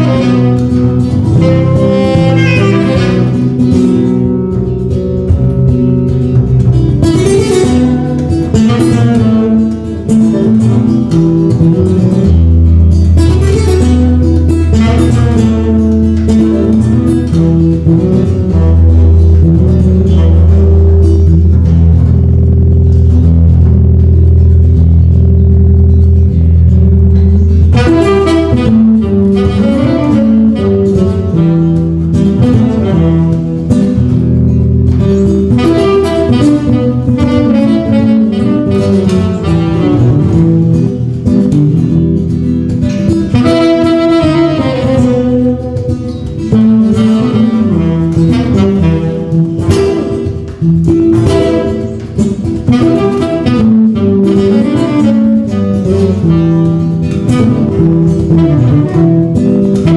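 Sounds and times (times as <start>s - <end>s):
jazz trio playing: 0.0s - 59.9s.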